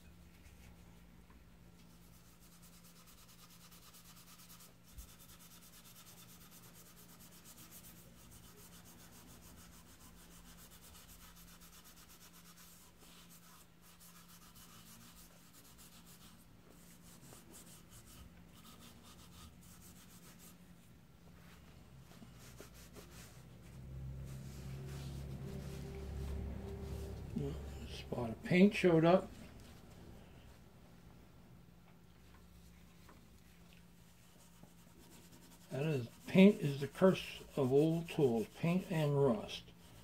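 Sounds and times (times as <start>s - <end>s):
low steady hum: 0.0s - 40.0s.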